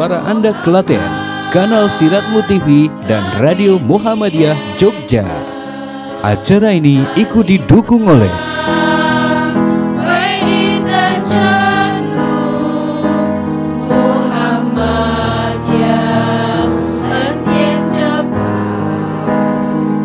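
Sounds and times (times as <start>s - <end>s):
choir-like voices: 0.0s - 20.0s
held chords: 0.0s - 20.0s.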